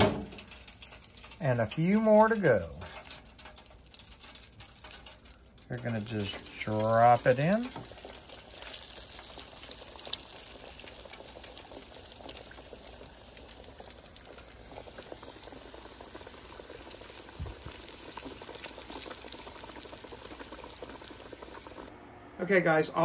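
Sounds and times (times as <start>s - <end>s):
chicken frying in deep fryer: 0.0s - 21.9s.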